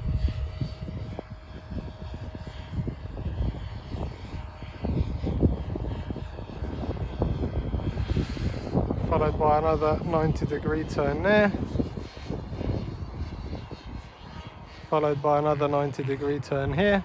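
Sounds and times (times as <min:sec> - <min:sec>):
rc helicopter motor and rotor hum: 0:00.0 - 0:17.0
wind rumble on microphone: 0:00.0 - 0:17.0.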